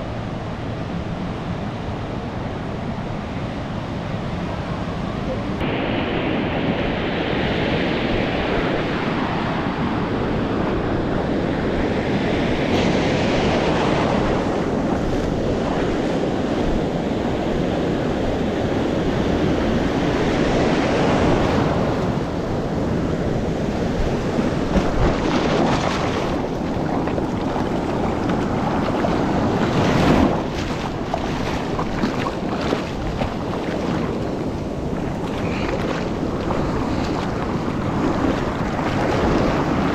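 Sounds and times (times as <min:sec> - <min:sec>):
small waves breaking on beach: 0:00.0 - 0:39.9
wind buffeting microphone: 0:04.4 - 0:39.9.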